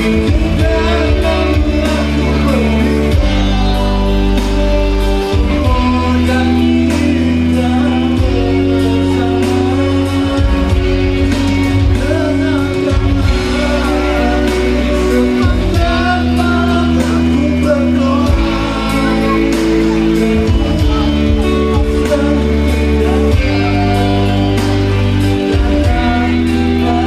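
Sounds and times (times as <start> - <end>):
amplified backing music: 0.0 - 27.0
man singing into a microphone: 0.0 - 27.0.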